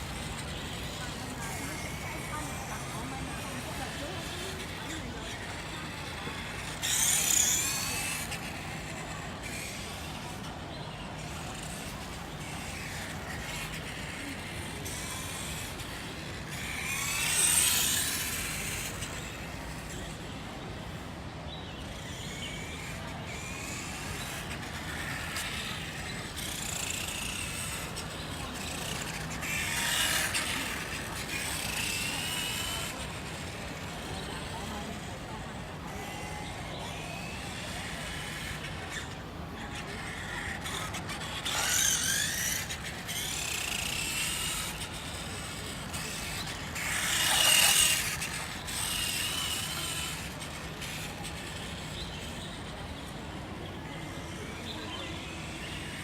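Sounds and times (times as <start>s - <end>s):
toy motorcycle motor whining past: 0.0s - 21.2s, 21.8s - 56.0s.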